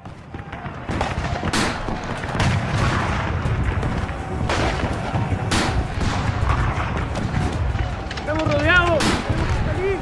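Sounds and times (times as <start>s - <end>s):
battle gunfire rumble: 0.0s - 9.8s.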